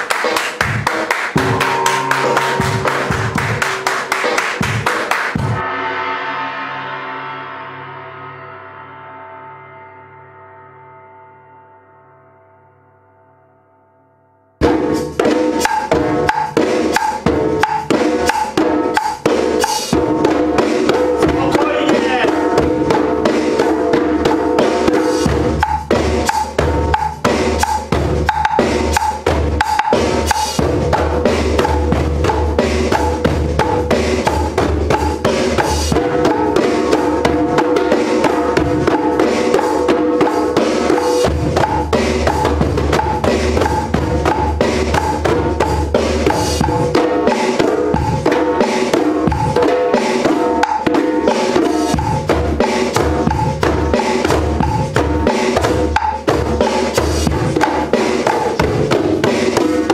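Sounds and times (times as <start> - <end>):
djembes drumming: 0.0 - 5.6, 14.7 - 59.9.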